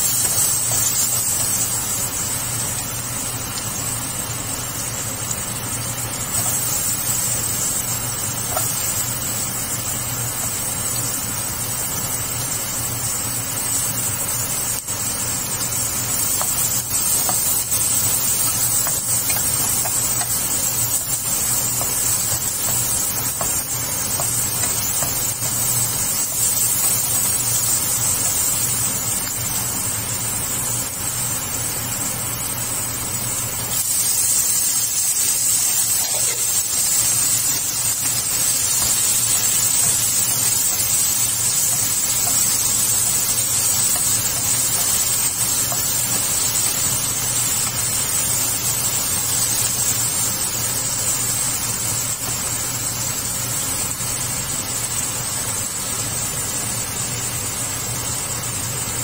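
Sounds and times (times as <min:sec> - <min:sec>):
vegetables sizzling in hot oil: 0:00.0 - 0:59.0.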